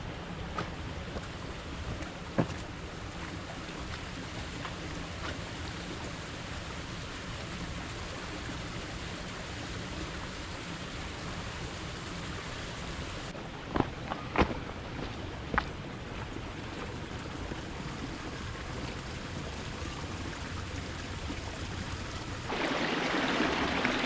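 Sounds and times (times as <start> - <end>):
steady rain hiss: 0.0 - 13.7, 14.8 - 24.0.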